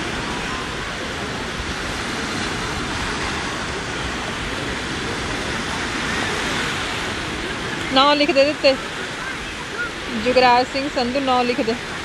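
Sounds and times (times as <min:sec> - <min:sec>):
surf: 0:00.0 - 0:12.0
wind rumbling on microphone: 0:00.0 - 0:12.0.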